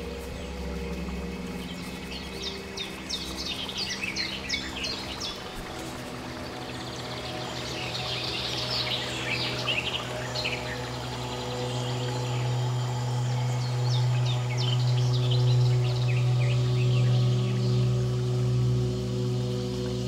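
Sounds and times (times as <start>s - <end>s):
birds chirping: 0.0s - 20.0s
low drone: 0.0s - 20.0s.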